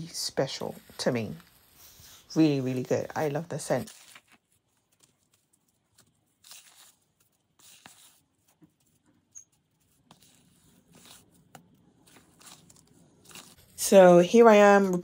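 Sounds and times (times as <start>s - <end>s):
faint scraping and rustling: 0.0s - 14.7s.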